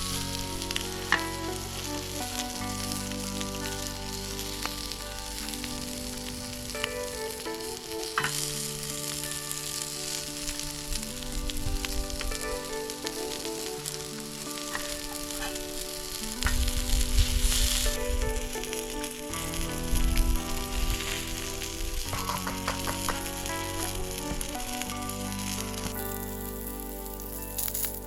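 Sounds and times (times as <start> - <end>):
background music with held notes: 0.0 - 28.0
sausages sizzling on a grill: 0.0 - 28.0.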